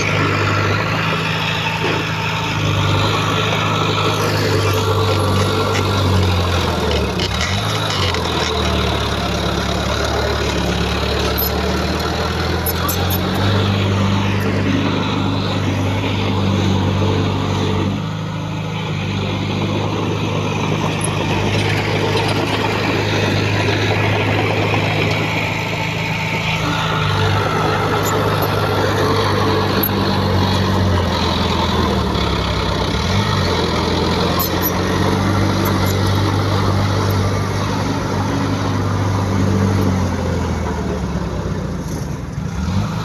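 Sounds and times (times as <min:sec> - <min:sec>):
heavy diesel machinery engines: 0:00.0 - 0:43.0.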